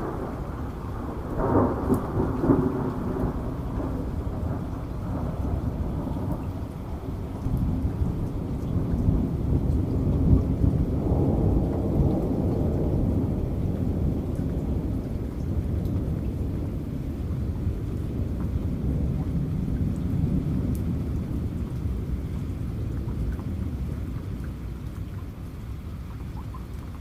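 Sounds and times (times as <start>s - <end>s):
thunder rumbling: 0.0s - 24.9s
steady rain: 0.0s - 27.0s.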